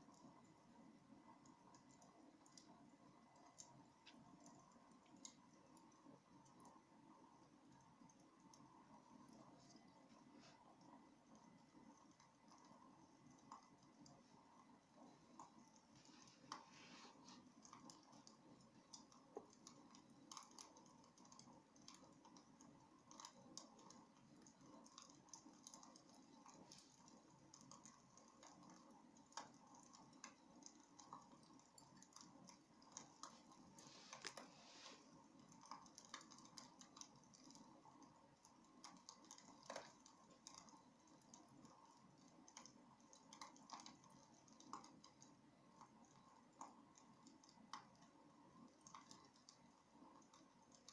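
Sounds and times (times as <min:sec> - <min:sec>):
low steady hiss: 0:00.0 - 0:50.9
wood fire crackling: 0:00.0 - 0:50.9.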